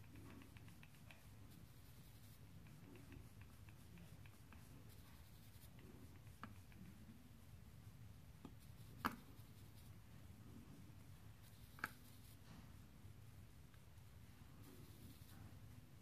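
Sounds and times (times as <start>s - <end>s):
faint room hum: 0.0s - 16.0s
makeup brush strokes: 0.0s - 16.0s.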